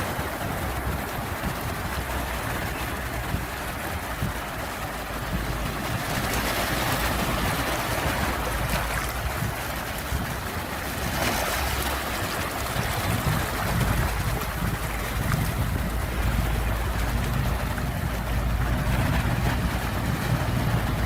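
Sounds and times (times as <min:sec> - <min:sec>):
low rumble of surf: 0:00.0 - 0:21.0
waves breaking: 0:00.0 - 0:21.0.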